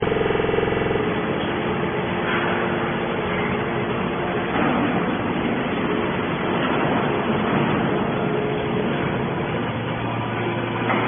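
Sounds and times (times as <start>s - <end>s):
buzzing machinery hum: 0.0s - 11.0s
noisy mechanical din: 0.0s - 11.0s.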